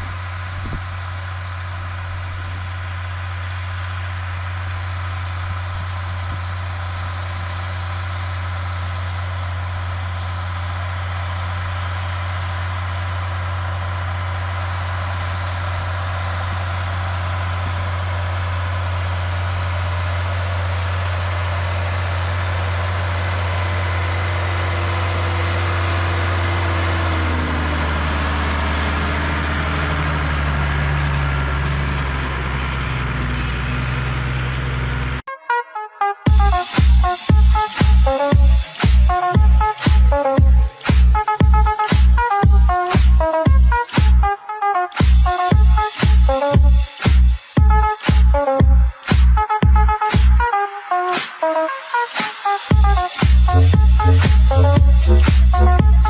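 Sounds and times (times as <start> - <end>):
tractor engine running: 0.0 - 35.3, 36.3 - 56.0.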